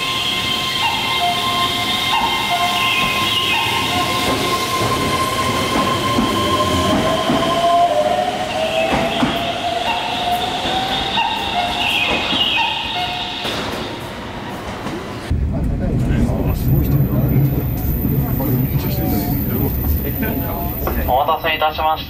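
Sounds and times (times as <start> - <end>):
electric train running on rails: 0.0 - 22.0.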